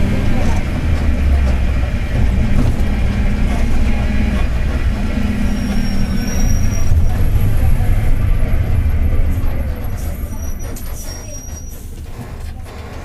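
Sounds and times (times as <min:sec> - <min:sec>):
low driveshaft drone: 0:00.0 - 0:10.8
bus diesel engine rumble: 0:00.0 - 0:13.0.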